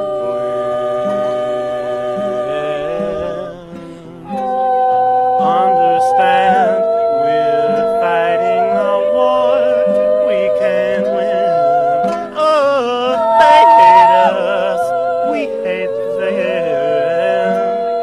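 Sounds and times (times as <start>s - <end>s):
long held wordless notes: 0.0s - 18.0s
lower musical accompaniment: 0.0s - 18.0s.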